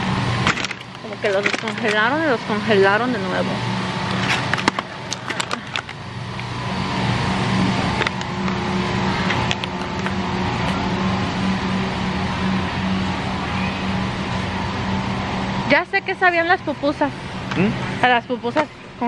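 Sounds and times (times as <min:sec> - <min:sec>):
low hum of store: 0:00.0 - 0:19.0.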